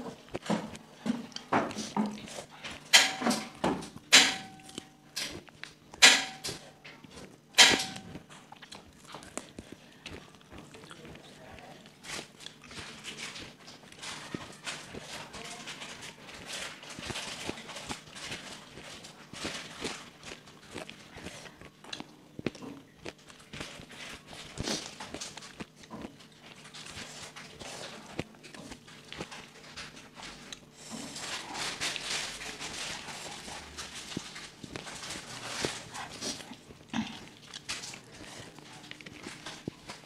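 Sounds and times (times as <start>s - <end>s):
people chewing and lip smacking: 0.0s - 40.0s.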